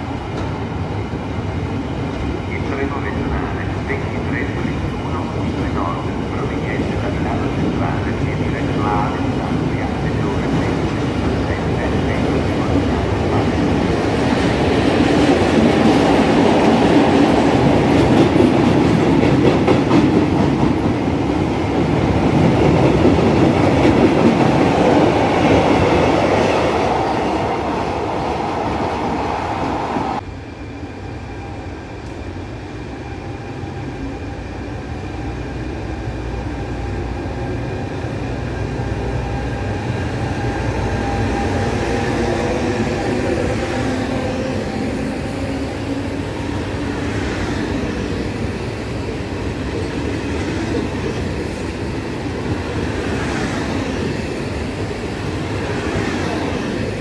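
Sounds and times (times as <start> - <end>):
passenger train rolling past: 0.0 - 57.0.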